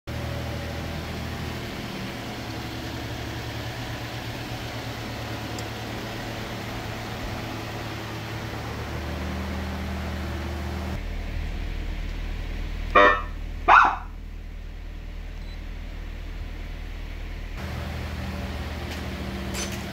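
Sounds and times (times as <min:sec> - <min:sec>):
car engine idling: 0:00.1 - 0:19.9.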